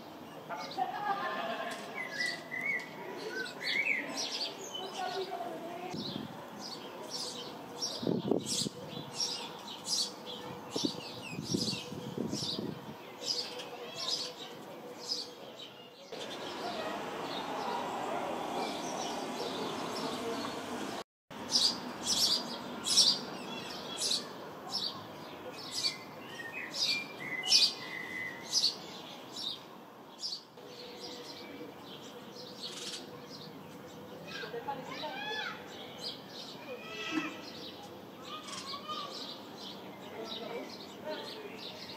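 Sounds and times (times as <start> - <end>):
sparrows chirping: 0.1 - 20.7, 21.4 - 41.9.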